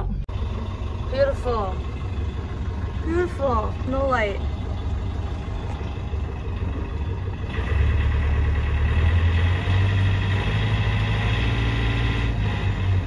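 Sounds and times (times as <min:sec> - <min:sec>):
marine diesel engine idling: 0:00.0 - 0:11.5.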